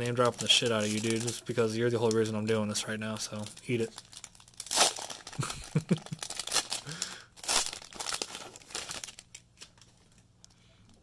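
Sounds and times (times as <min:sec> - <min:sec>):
foil wrapper tearing and crinkling: 0:00.0 - 0:09.9.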